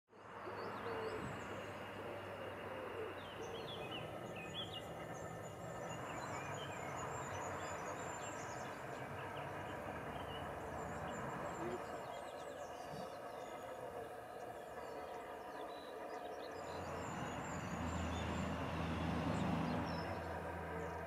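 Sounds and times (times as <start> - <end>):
small birds chirping: 0.5 - 21.0.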